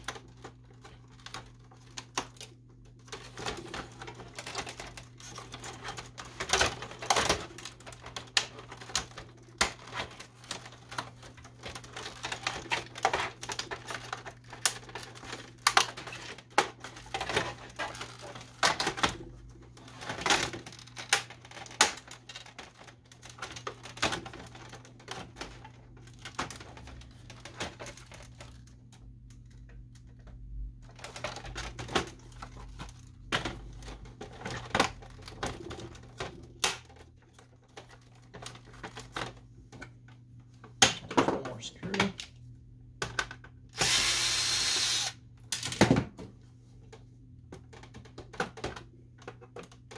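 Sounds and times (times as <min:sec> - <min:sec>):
plastic cover clattering: 0:00.0 - 0:42.2.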